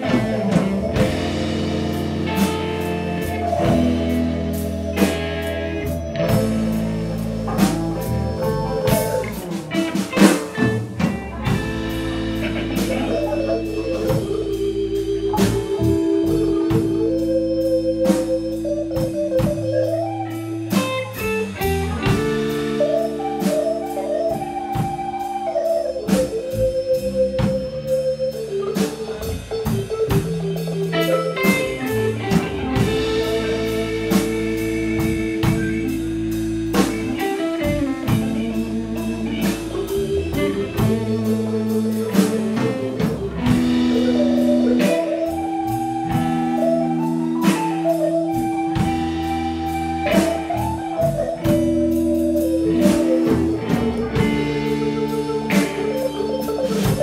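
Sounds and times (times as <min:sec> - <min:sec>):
bass: 0:00.0 - 0:57.0
drum kit: 0:00.0 - 0:57.0
electric guitar: 0:00.0 - 0:57.0
organ chords: 0:00.0 - 0:57.0.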